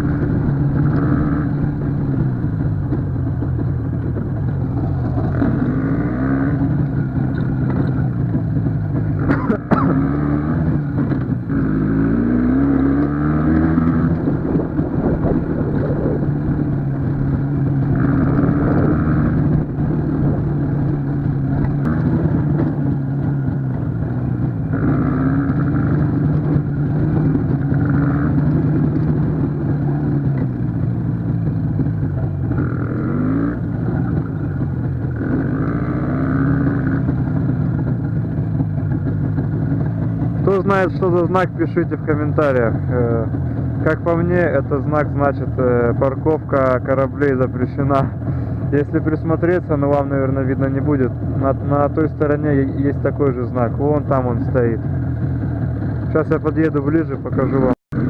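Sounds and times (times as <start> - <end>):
two-stroke motorcycle engine: 0.0 - 58.0.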